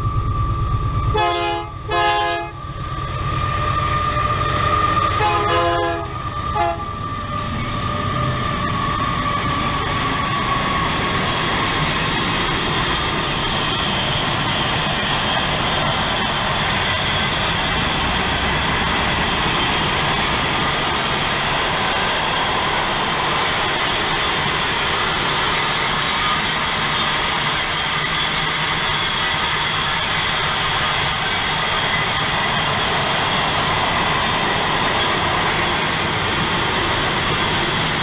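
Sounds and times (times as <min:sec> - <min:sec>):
steel wheels rolling on rails: 0:00.0 - 0:38.0.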